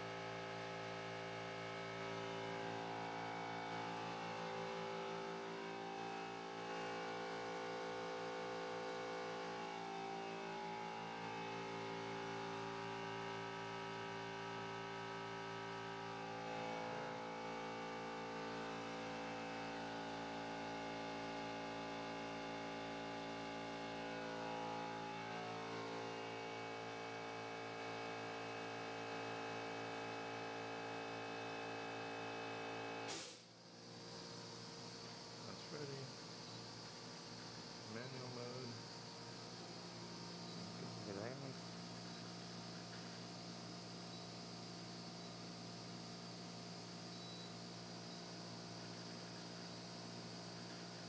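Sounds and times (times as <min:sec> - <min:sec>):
machine hum and whir: 0:00.0 - 0:51.0.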